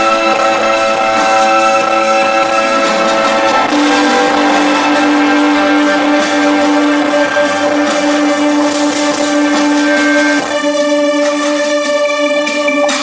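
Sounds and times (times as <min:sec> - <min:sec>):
long held low note: 0:00.0 - 0:10.8
live industrial rock band: 0:00.0 - 0:13.0.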